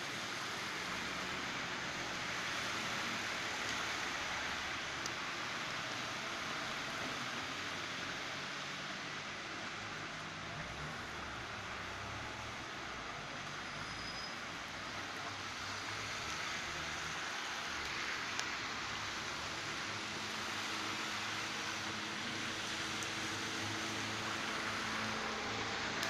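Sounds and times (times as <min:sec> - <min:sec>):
heavy rain falling: 0:00.1 - 0:13.6, 0:14.5 - 0:26.0.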